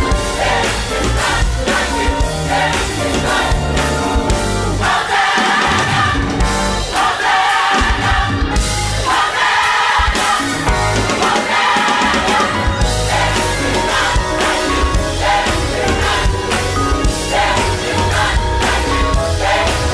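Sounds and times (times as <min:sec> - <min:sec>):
band with strong bass line: 0:00.0 - 0:19.9
gospel choir singing: 0:00.0 - 0:19.9.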